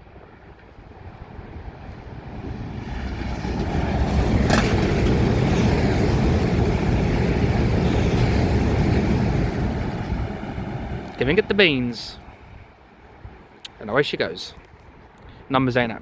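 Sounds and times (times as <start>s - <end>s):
high-speed train rushing past: 0.0s - 13.6s.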